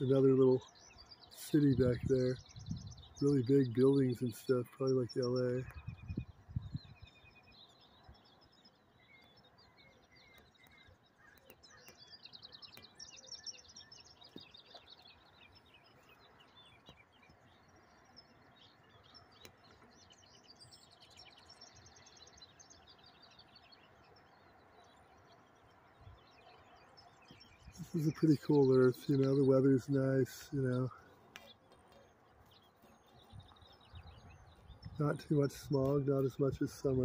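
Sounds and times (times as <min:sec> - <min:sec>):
small birds chirping and trilling: 0:00.0 - 0:37.0.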